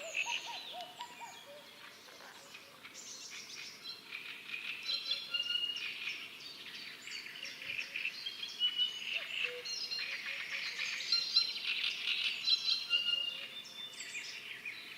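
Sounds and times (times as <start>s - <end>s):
birds singing and chirping: 0.0s - 14.9s.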